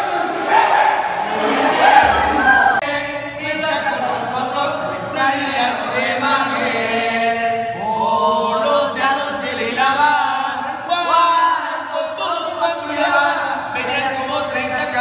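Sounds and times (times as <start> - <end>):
men singing together: 0.0 - 15.0.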